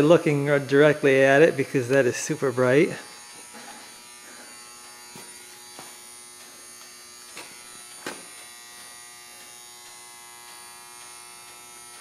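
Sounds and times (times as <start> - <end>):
electrical buzz: 0.0 - 12.0.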